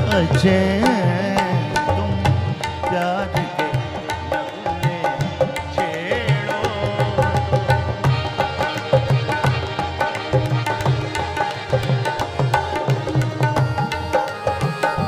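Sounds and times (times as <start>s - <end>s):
bowed sarangi: 0.0s - 15.0s
harmonium: 0.0s - 15.0s
tabla rhythm: 0.0s - 15.0s.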